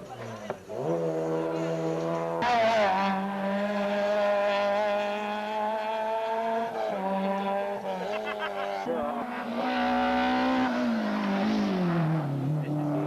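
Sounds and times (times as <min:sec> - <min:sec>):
racing car engine at high revs: 0:00.0 - 0:13.0.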